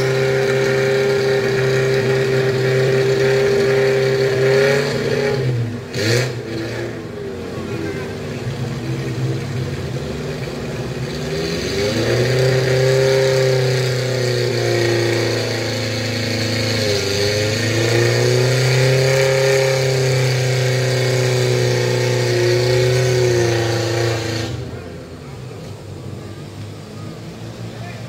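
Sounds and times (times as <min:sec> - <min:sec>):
car engine revving hard: 0:00.0 - 0:25.4.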